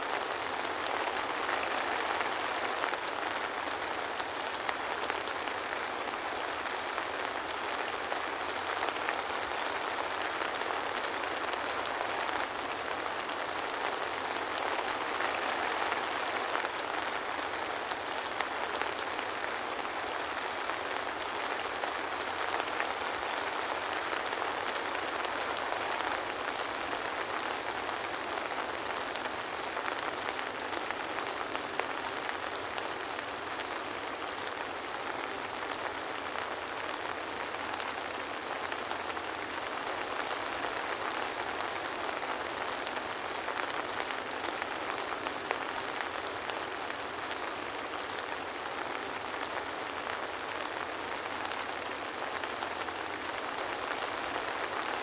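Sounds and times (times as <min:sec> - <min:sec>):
soft rain hissing: 0:00.0 - 0:55.0.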